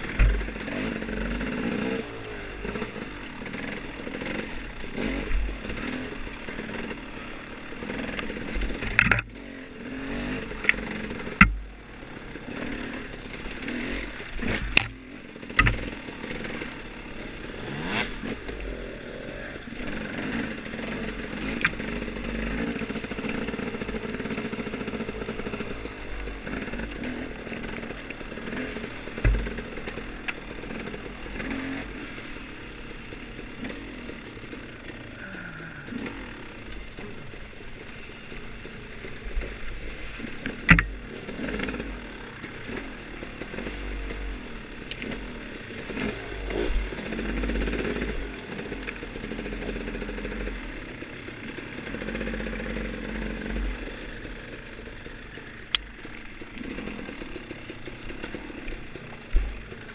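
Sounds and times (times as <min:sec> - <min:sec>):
knocks and clatter from bike: 0:00.0 - 0:02.1, 0:07.9 - 0:16.8, 0:19.9 - 0:35.3, 0:35.9 - 0:59.9
dirt bike engine revving: 0:00.0 - 0:59.9.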